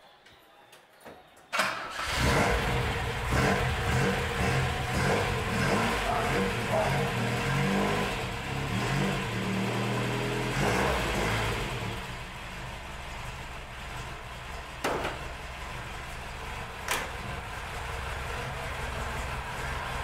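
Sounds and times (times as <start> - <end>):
car engine revving and idling: 1.9 - 20.0.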